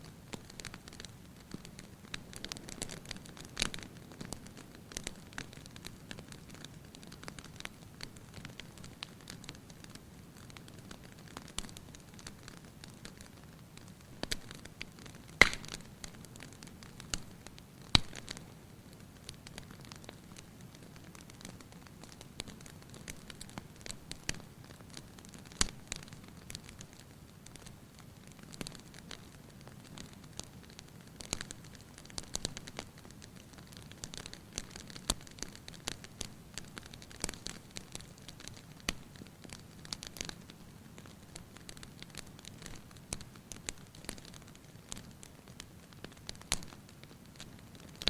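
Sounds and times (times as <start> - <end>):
fire crackling in a fireplace: 0.0 - 48.0.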